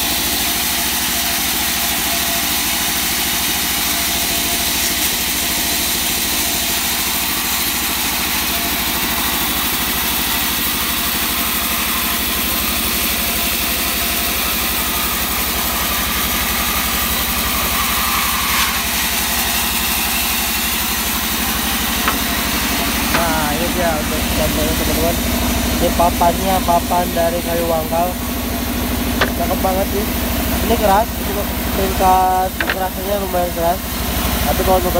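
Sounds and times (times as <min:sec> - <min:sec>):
band saw cutting wood: 0:00.0 - 0:34.9.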